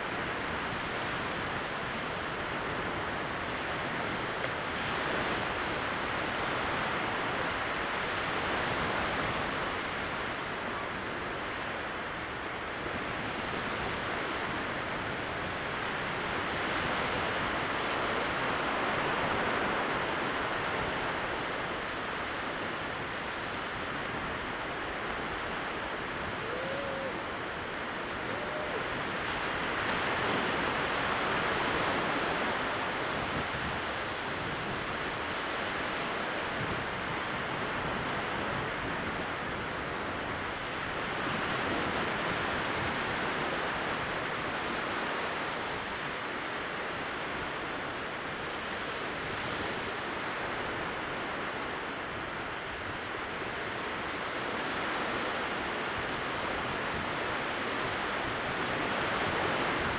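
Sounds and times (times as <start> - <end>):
small waves breaking on sand: 0.0 - 59.9.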